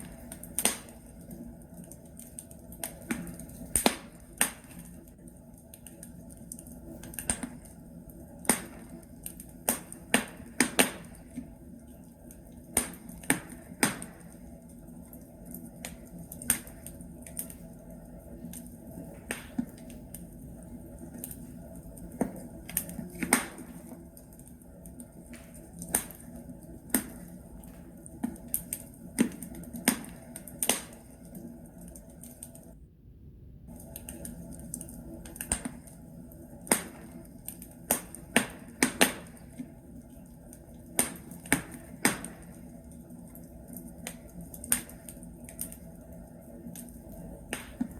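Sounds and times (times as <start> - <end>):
wood logs crackling in fireplace: 0.0 - 32.8, 33.7 - 47.9.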